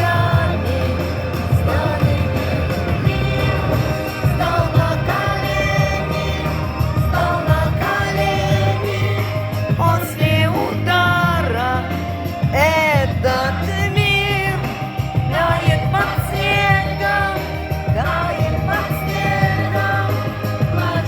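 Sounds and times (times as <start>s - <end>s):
song with singing over beat: 0.0s - 21.0s.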